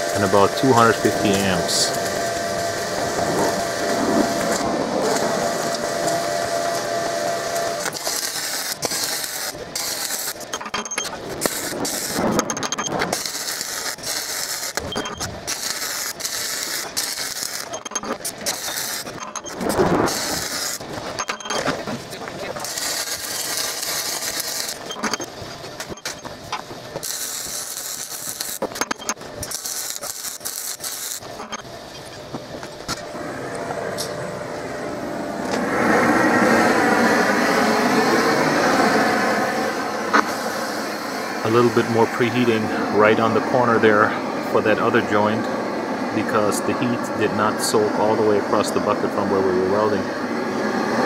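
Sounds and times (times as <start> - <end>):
welding arc crackling hiss: 0.0 - 34.7, 35.4 - 51.0.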